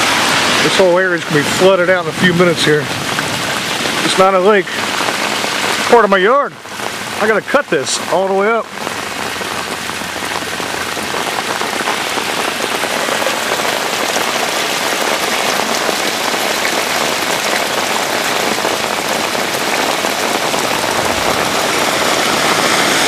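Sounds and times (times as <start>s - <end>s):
rain falling on grass and pavement: 0.0s - 23.0s.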